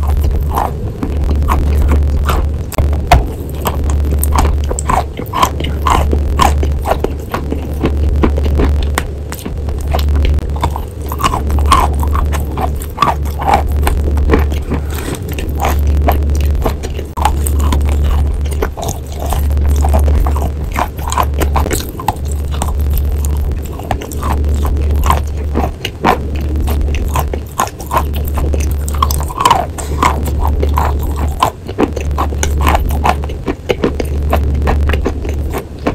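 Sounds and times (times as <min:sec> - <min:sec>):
chewing chalk crunches: 0:00.0 - 0:35.9
low throbbing hum: 0:00.0 - 0:35.9.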